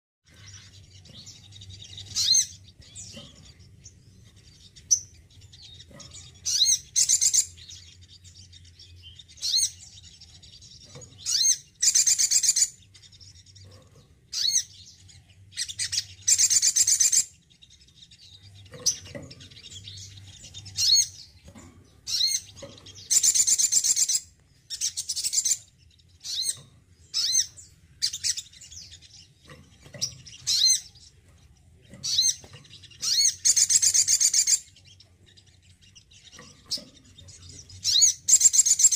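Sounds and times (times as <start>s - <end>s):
bird chirping and trilling: 0.2s - 38.9s.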